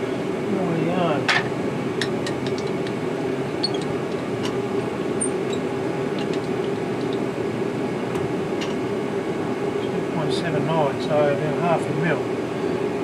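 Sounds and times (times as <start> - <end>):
workshop machine hum: 0.0 - 13.0.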